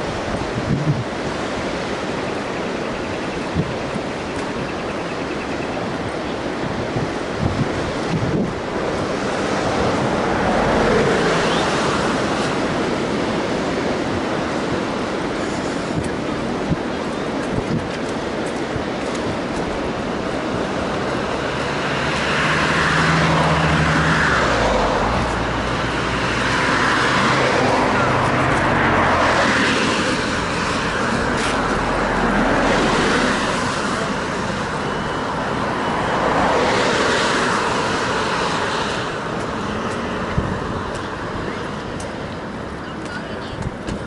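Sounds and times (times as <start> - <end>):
steady traffic background: 0.0 - 44.0
cars passing: 6.6 - 16.8, 18.4 - 44.0.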